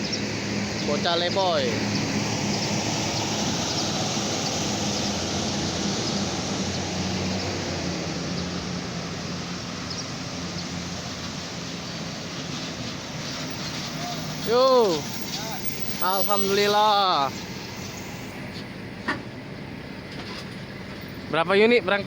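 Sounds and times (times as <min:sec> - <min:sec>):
bus engine humming: 0:00.0 - 0:22.0
wash of noise: 0:00.2 - 0:18.5.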